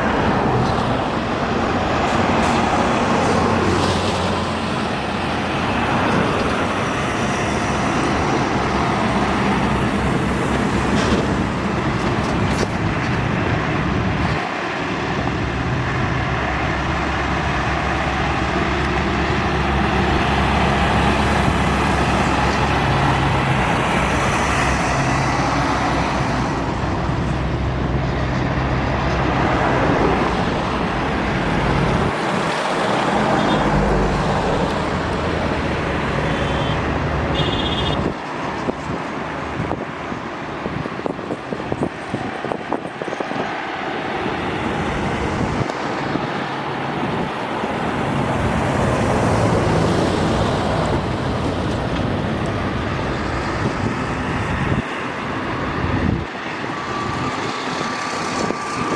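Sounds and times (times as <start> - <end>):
heavy highway traffic: 0.0 - 58.9.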